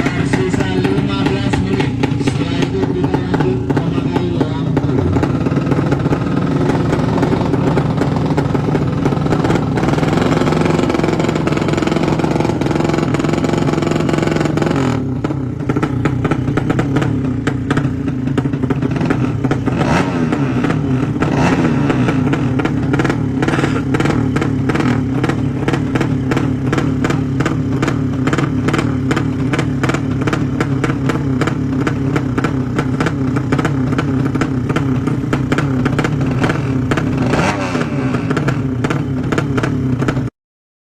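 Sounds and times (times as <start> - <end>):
racing motorcycle engines revving: 0.0 - 40.3.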